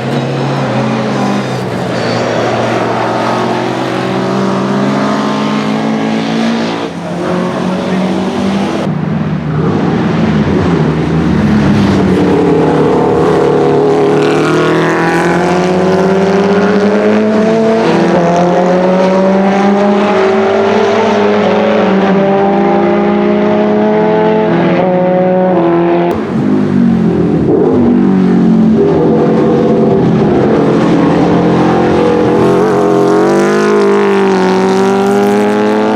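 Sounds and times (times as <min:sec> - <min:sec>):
racing engine accelerating: 0:00.0 - 0:35.9.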